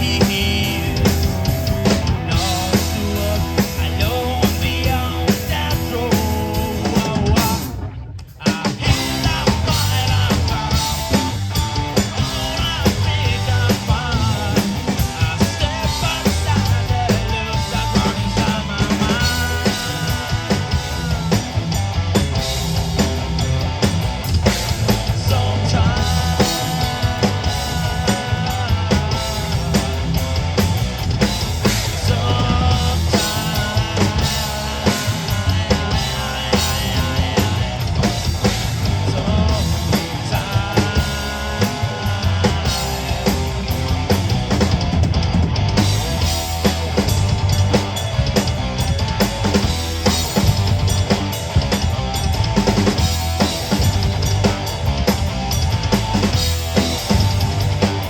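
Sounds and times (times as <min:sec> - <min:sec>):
bass drum: 0:00.0 - 0:08.0, 0:08.8 - 0:58.0
rock band playing: 0:00.0 - 0:58.0.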